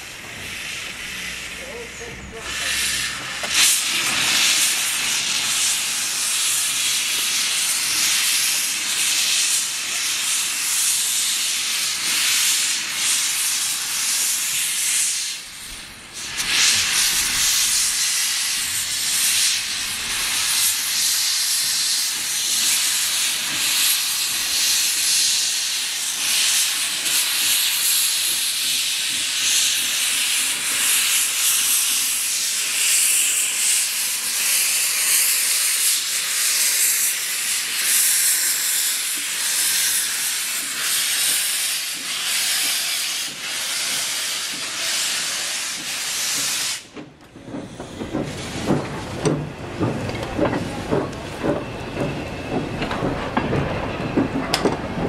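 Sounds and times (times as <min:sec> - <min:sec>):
steam hissing: 0:00.0 - 0:55.0.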